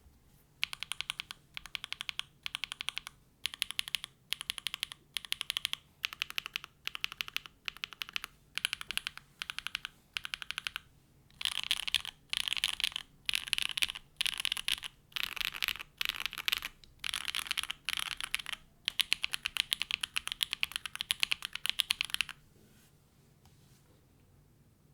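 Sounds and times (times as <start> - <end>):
mechanical keyboard typing: 0.6 - 22.4.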